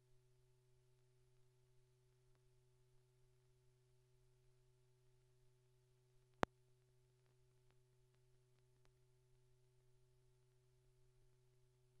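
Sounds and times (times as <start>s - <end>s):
faint ticks: 0.8s - 3.8s, 4.4s - 12.0s.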